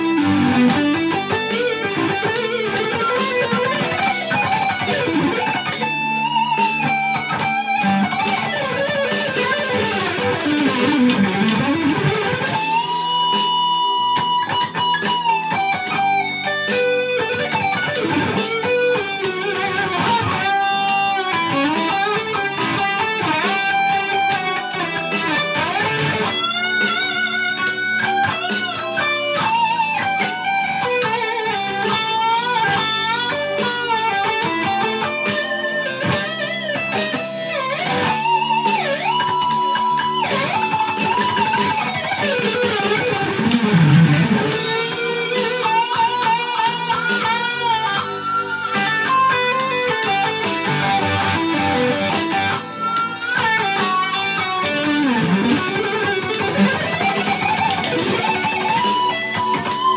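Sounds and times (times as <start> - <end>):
electric guitar solo: 0.0 - 59.9.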